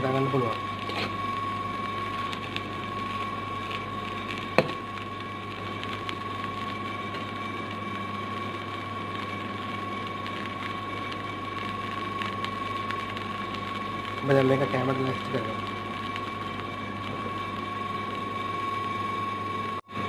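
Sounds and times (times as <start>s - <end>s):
high-pitched hum: 0.0s - 20.0s.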